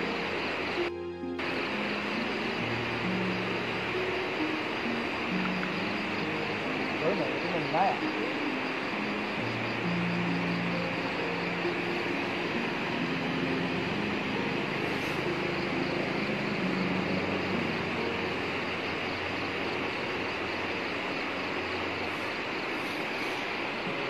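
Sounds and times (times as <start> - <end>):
faint background music: 0.0 - 24.0.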